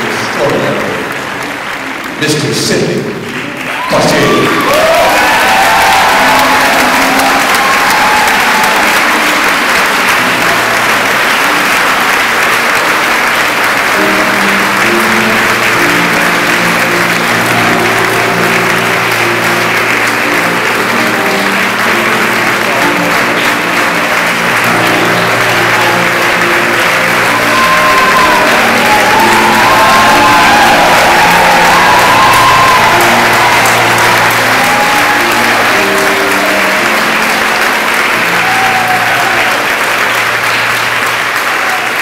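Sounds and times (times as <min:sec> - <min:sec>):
audience applauding: 0:00.0 - 0:42.0
instrumental music: 0:05.7 - 0:42.0.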